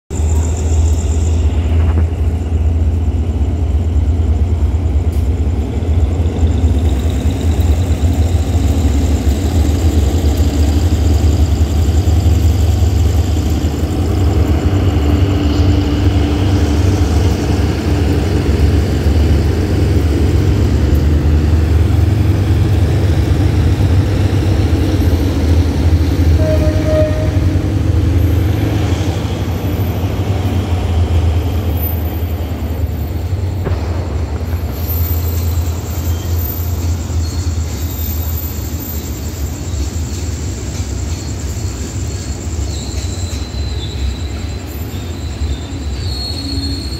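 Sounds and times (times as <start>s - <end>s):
diesel locomotive engine rumble: 0.1s - 46.9s
train wagons rolling: 0.1s - 46.9s.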